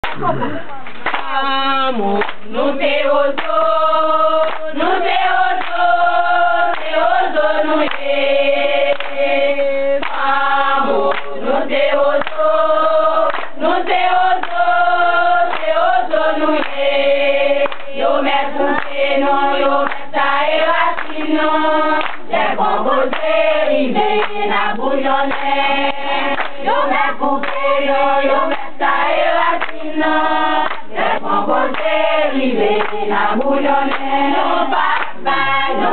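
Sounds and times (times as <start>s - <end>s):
women singing together: 0.1s - 35.9s.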